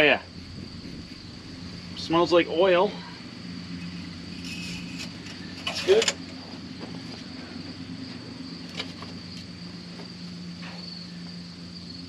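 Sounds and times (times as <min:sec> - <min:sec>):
electric fuel pump humming and whining: 0:00.0 - 0:12.0.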